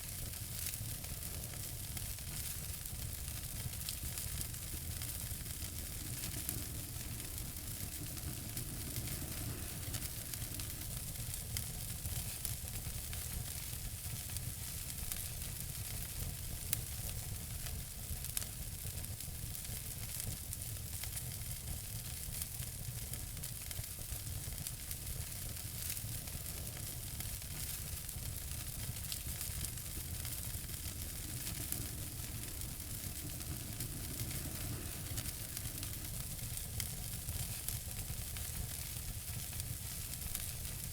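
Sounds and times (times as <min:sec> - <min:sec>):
fire hissing in fireplace: 0:00.0 - 0:40.9
wood fire crackles and pops: 0:00.0 - 0:40.9.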